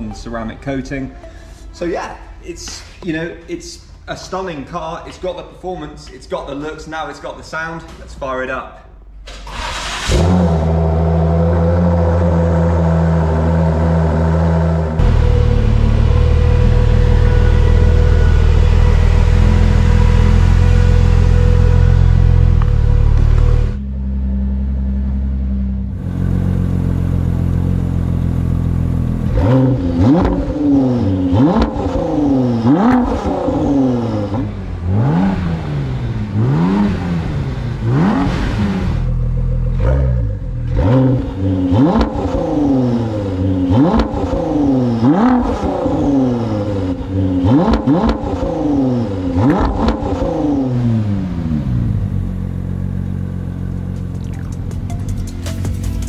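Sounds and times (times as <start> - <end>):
car engine revving: 9.5 - 56.0.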